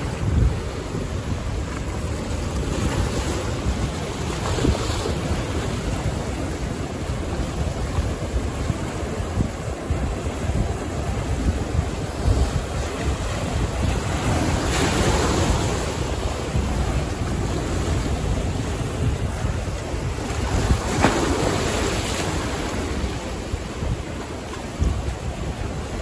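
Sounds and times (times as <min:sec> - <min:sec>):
sea waves breaking: 0:00.0 - 0:26.0
wind buffeting microphone: 0:00.0 - 0:26.0.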